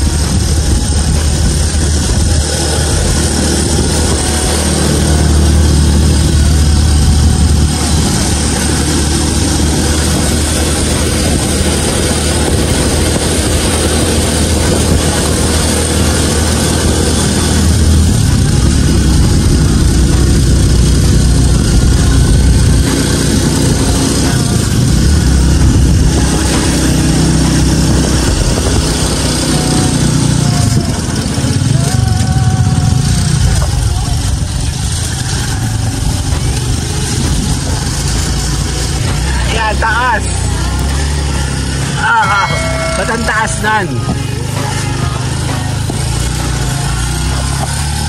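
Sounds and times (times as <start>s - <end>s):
small motorcycle engine running: 0.0s - 48.0s
wind and road noise: 0.0s - 48.0s.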